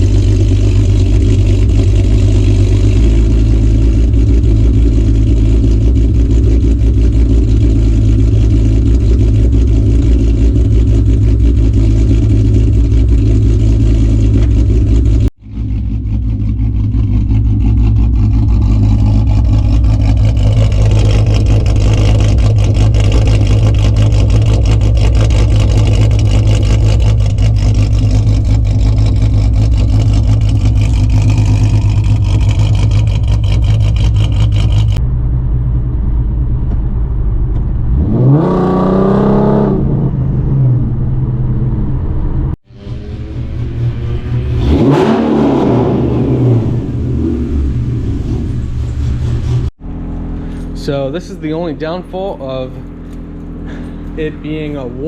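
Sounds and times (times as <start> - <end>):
loud car engine running: 0.0 - 55.0.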